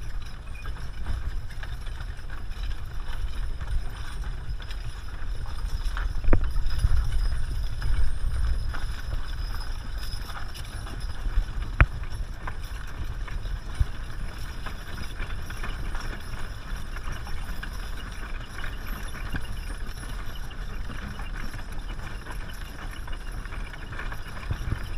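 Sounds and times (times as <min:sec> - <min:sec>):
hooves clopping on dirt: 0:00.0 - 0:24.9.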